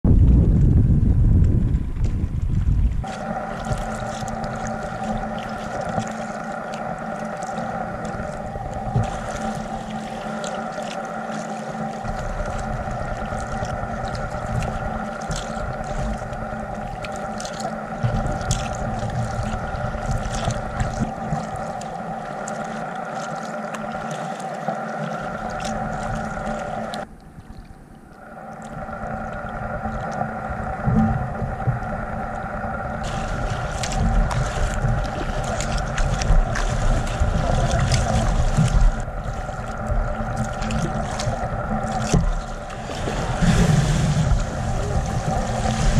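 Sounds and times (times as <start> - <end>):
motor hum: 0.1 - 45.9
water splashing and dripping: 3.0 - 45.9.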